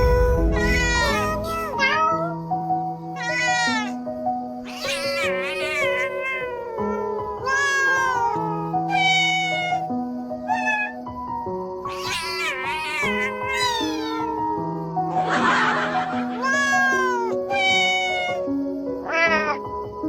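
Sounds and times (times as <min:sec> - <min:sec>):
cat meowing: 0:00.0 - 0:02.4, 0:03.0 - 0:11.0, 0:11.8 - 0:14.5, 0:15.9 - 0:19.7
slow background music: 0:00.0 - 0:20.0.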